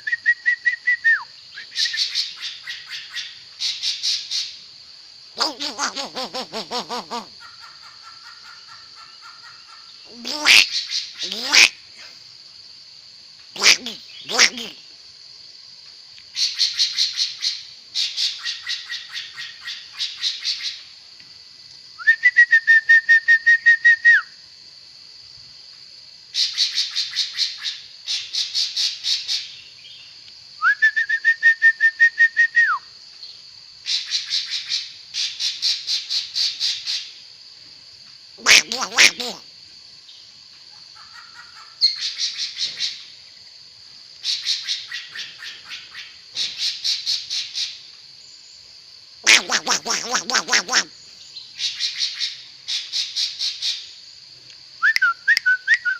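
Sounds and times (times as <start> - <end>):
songbird singing: 0.0 - 12.2, 13.2 - 15.1, 15.8 - 21.3, 26.3 - 43.5, 44.2 - 55.9.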